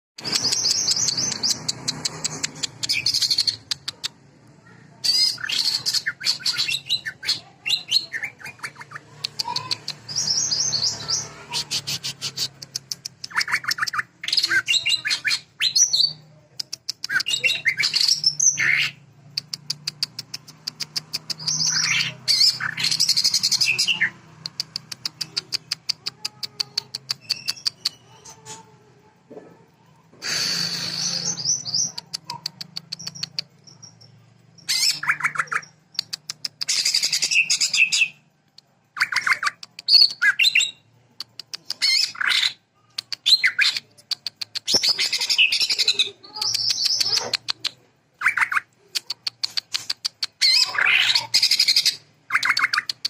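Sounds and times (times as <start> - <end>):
bird singing trills and whistles: 0.2 - 3.8, 5.1 - 16.2, 17.0 - 26.0, 30.3 - 38.3, 38.9 - 40.9, 41.7 - 53.0.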